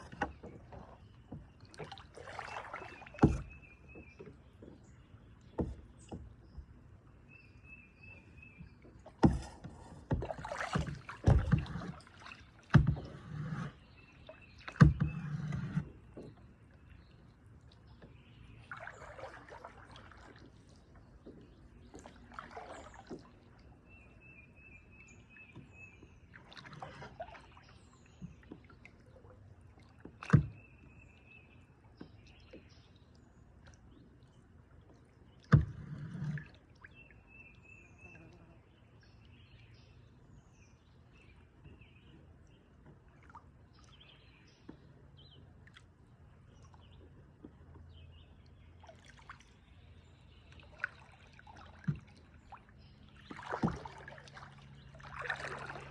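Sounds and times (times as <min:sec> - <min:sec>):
water sloshing and dripping: 0:00.0 - 0:38.2, 0:38.8 - 0:55.9.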